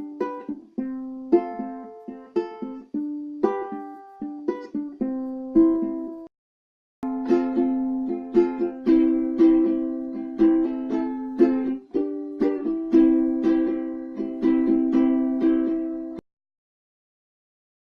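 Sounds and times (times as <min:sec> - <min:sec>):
ukulele strummed in chords: 0:00.0 - 0:06.3, 0:07.0 - 0:16.2.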